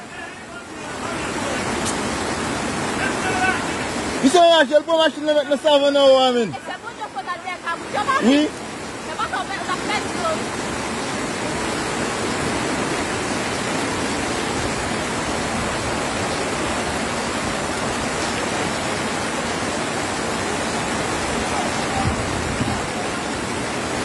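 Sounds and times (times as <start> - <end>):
flood water rushing: 0.0 - 24.0.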